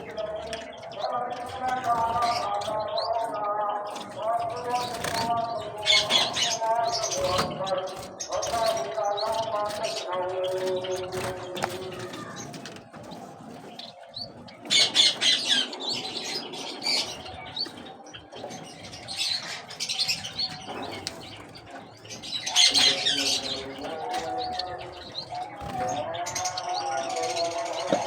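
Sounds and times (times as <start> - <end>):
birds chirping: 0.0 - 28.0
birds flapping wings: 3.9 - 26.8.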